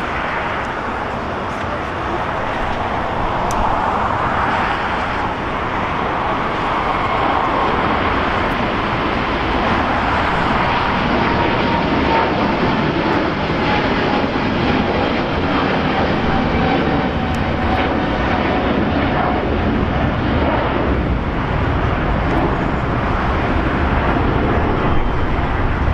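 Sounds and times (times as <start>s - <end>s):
faint engine whine: 0.0s - 25.9s
jet engines running: 0.0s - 25.9s.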